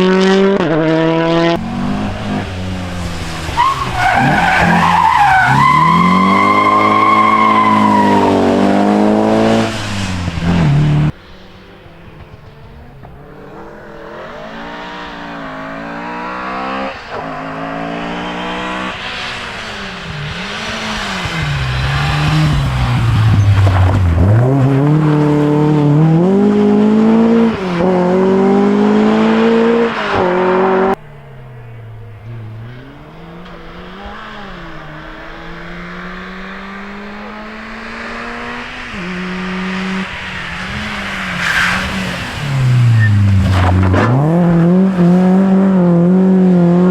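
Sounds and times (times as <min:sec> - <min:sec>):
distant rally car revving: 0:00.0 - 0:46.9
rally car engine revving: 0:00.0 - 0:46.9.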